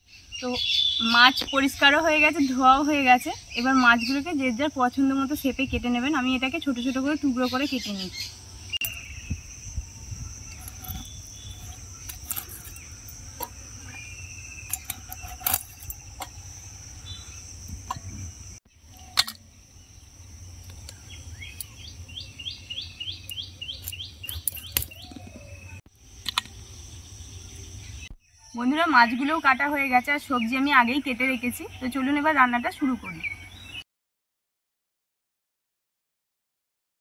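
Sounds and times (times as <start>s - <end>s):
high drone of insects: 0.1s - 33.8s.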